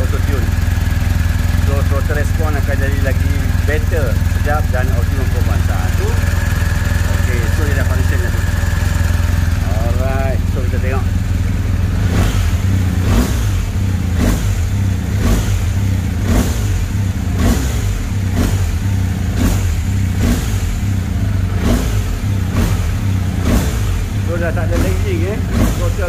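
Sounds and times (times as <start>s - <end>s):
motorcycle engine revving in blips: 0.0s - 26.0s.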